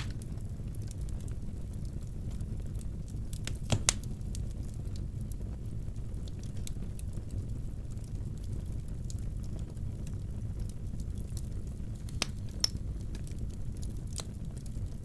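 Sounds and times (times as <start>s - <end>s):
fire cracking and popping: 0.0s - 15.0s
fire rumbling: 0.0s - 15.0s.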